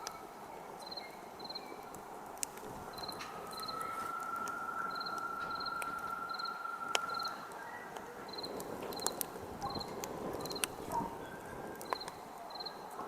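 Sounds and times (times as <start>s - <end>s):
campfire crackling: 0.0s - 13.0s
crickets chirping: 0.0s - 13.0s.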